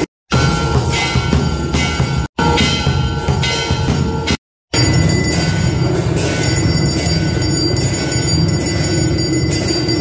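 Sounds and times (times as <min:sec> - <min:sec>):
brass bells ringing: 0:00.0 - 0:10.0
brass cymbal clashing: 0:00.0 - 0:10.0.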